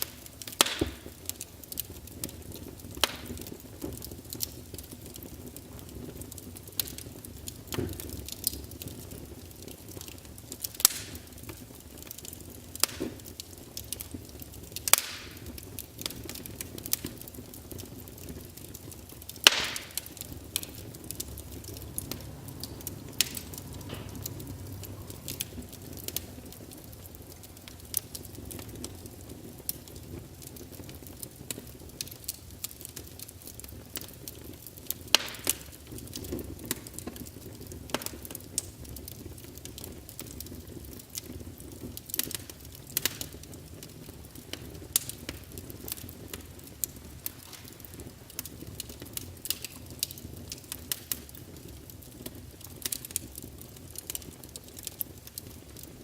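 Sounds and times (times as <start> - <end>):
flames hissing and rumbling: 0.0 - 56.0
logs crackling and popping: 0.0 - 56.0.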